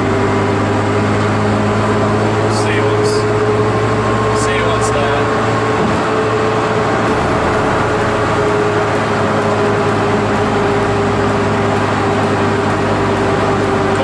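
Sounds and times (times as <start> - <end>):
car engine droning: 0.0 - 14.0
road noise: 0.8 - 14.0.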